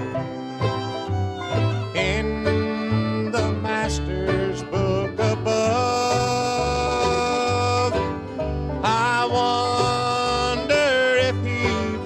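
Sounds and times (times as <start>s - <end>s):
bluegrass band playing: 0.0s - 12.0s
fiddle long sliding notes: 0.0s - 12.0s.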